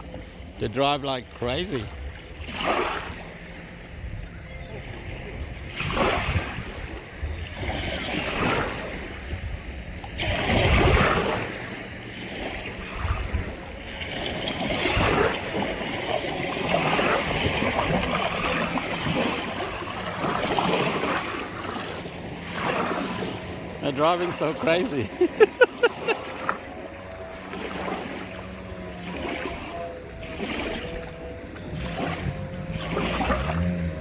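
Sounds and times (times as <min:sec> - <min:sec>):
distant jet ski engine droning: 0:00.0 - 0:34.0
wind gusting over microphone: 0:01.8 - 0:34.0.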